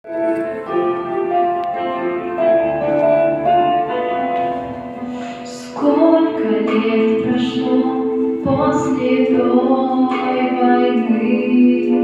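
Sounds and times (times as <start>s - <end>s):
slow keyboard melody with chords: 0.0s - 12.0s.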